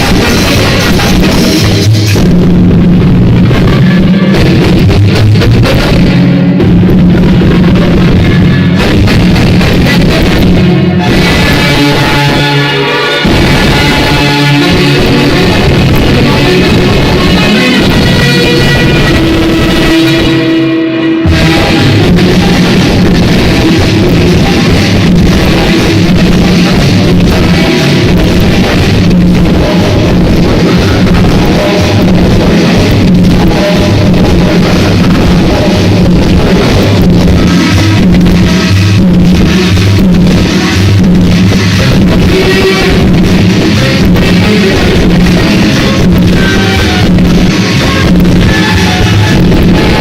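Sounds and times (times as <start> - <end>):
loud music over sound system: 0.0 - 50.0.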